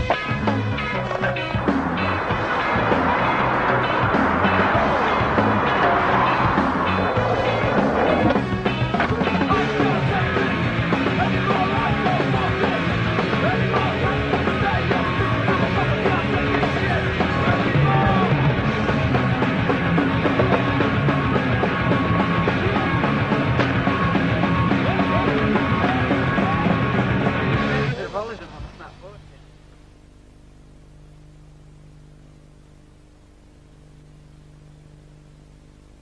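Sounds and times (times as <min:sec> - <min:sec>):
loud punk rock music: 0:00.0 - 0:28.8.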